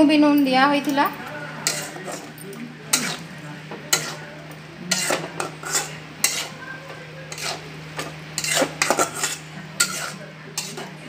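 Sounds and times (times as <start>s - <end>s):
metal spatula scraping a pan: 1.6s - 11.0s.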